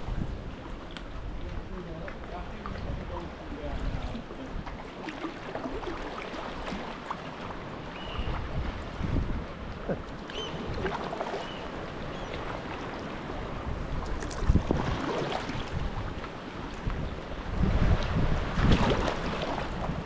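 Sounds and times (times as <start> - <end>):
wind buffeting microphone: 0.0 - 4.9, 7.5 - 20.0
paddle strokes splashing: 0.5 - 9.0, 10.0 - 17.0, 17.9 - 20.0.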